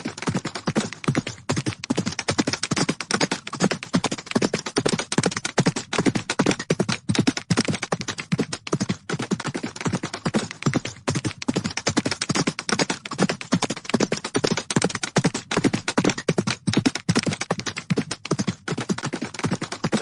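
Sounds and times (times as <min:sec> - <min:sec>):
horses galloping hoofbeats: 0:00.0 - 0:20.0.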